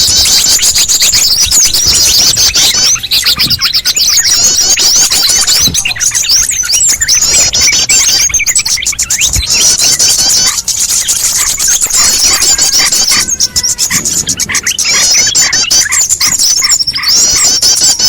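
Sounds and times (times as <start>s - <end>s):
songbirds chirping and twittering: 0.0s - 18.0s.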